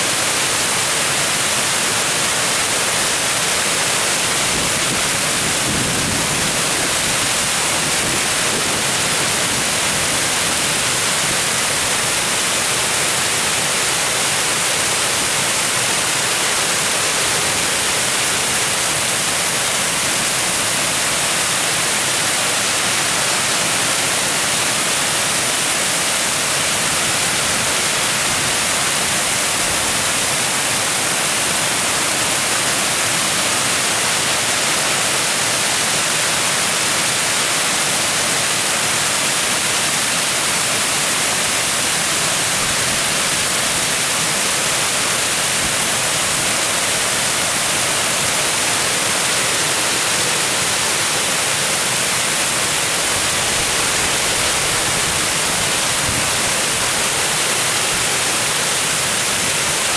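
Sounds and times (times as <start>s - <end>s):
water rushing over a weir: 0.0s - 59.9s.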